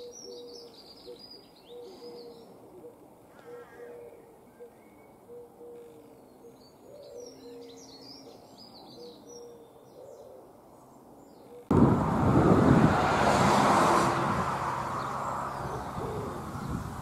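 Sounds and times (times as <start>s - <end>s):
small birds chirping: 0.0s - 11.7s, 14.8s - 17.0s.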